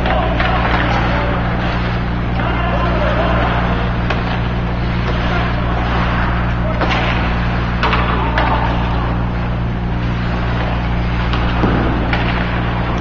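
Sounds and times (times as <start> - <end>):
hockey sticks clacking on puck: 0.0 - 9.2, 10.0 - 13.0
ice rink noise: 0.0 - 13.0
steady low hum: 0.0 - 13.0.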